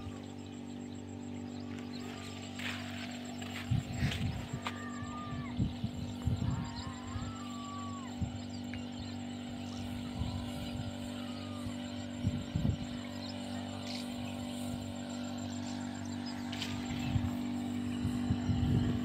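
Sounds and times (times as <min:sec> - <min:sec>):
sprayer engine running: 0:00.0 - 0:19.0.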